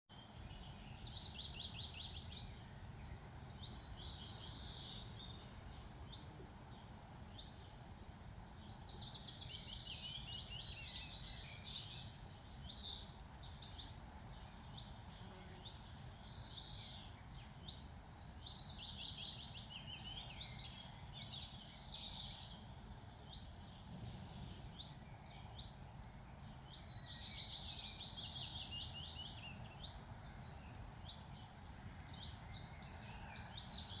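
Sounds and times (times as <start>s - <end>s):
songbirds singing with trills: 0.1s - 34.0s
steady low background noise: 0.1s - 34.0s.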